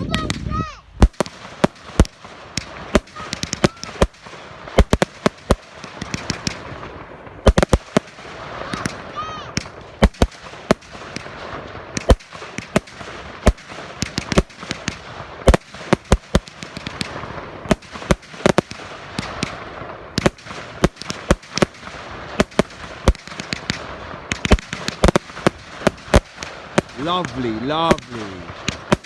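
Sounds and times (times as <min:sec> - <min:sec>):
firework barrage bangs: 0:00.0 - 0:29.0.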